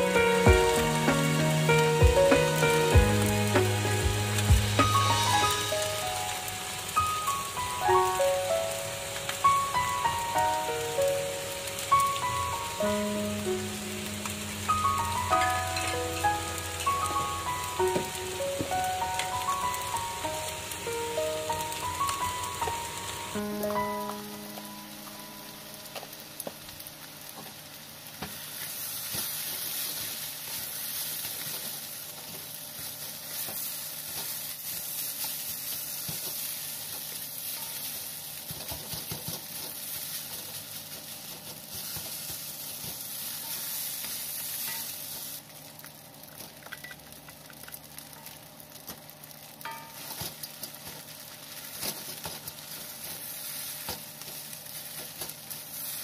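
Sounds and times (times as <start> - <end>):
fried rice sizzling in a pan: 0.0 - 56.0.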